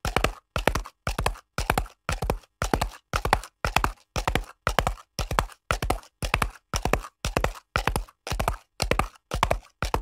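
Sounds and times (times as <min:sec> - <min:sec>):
horse hooves galloping: 0:00.0 - 0:10.0.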